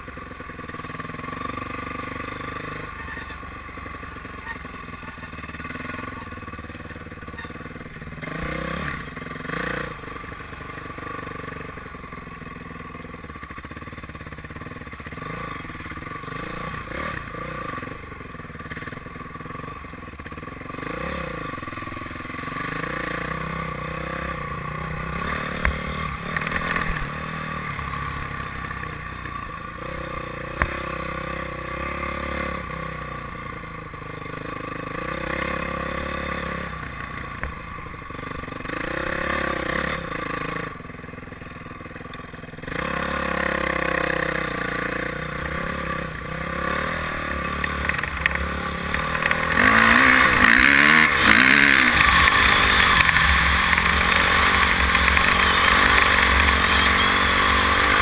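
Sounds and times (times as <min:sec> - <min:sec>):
dirt bike engine revving: 0:00.0 - 0:12.6, 0:13.5 - 0:40.8, 0:42.6 - 0:58.0.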